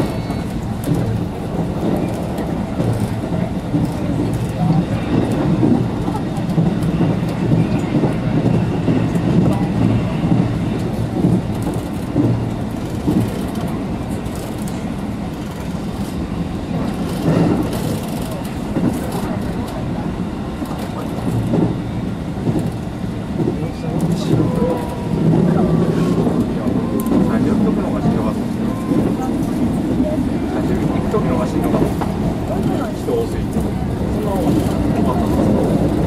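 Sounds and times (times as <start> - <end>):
train wheels rumbling: 0.0 - 36.0.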